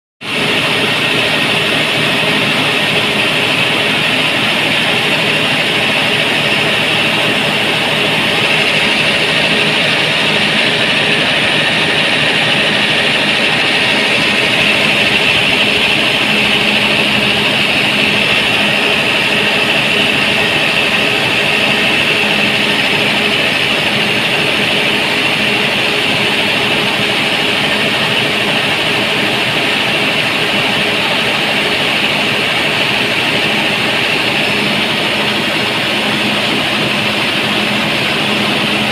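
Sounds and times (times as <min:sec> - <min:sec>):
diesel engine running: 0:00.2 - 0:38.9
high-pitched belt whir: 0:00.3 - 0:38.9.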